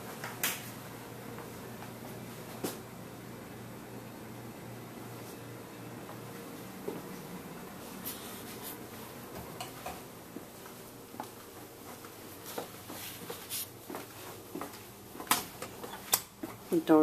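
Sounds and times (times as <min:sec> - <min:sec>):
soft footsteps: 0:00.0 - 0:03.0, 0:05.0 - 0:17.0
low steady hum: 0:00.0 - 0:17.0.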